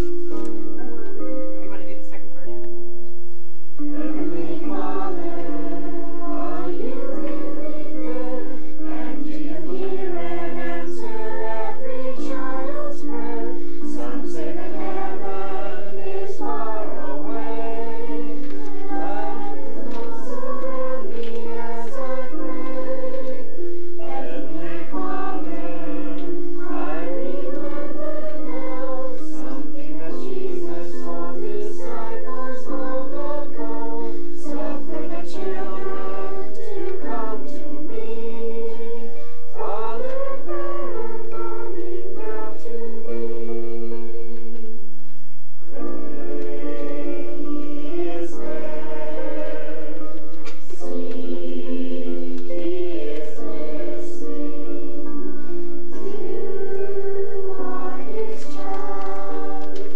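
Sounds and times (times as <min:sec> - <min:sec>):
held accompaniment notes: 0:00.0 - 0:44.9, 0:45.5 - 0:59.9
children's choir singing: 0:03.8 - 0:44.7, 0:45.6 - 0:59.9.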